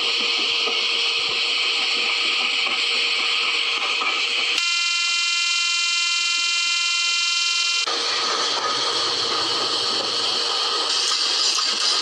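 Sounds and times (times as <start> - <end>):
model train whirr and hum: 0.0 - 7.0, 7.6 - 12.0.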